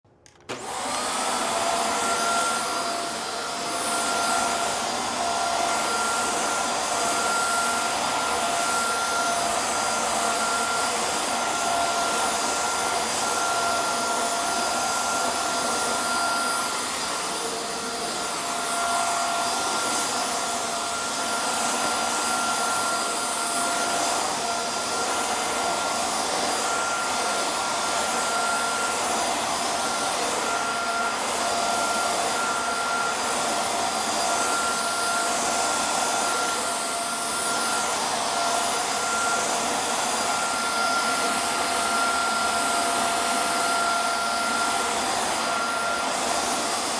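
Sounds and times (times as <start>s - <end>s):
vacuum cleaner motor whining: 0.2s - 46.9s.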